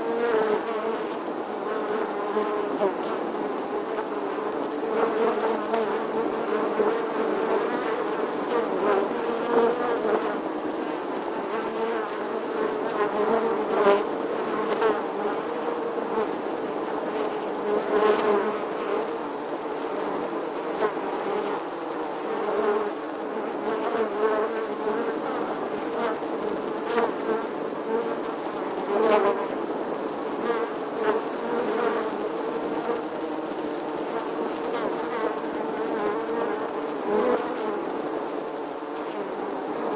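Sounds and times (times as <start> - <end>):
bee buzzing: 0.0 - 39.9.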